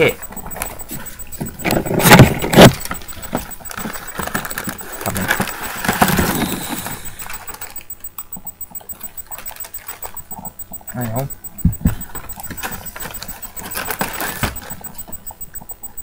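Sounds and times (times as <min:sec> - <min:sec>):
rustling and handling: 0:00.2 - 0:16.0.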